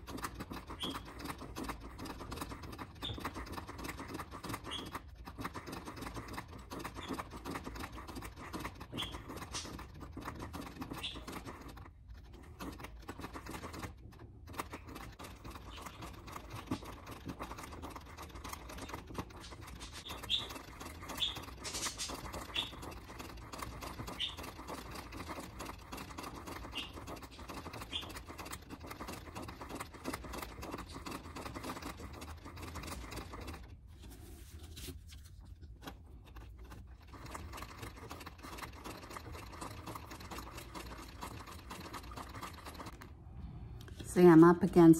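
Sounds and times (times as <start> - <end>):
sewing machine stitching: 0.0 - 34.0, 35.8 - 43.1.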